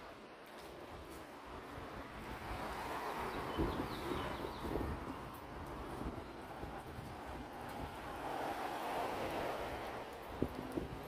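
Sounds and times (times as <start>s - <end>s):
vehicle passing on road: 0.7s - 11.0s.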